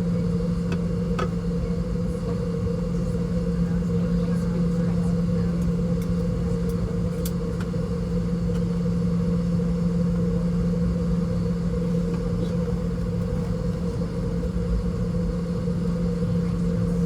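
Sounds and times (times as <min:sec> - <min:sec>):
aircraft cabin drone: 0:00.0 - 0:17.0.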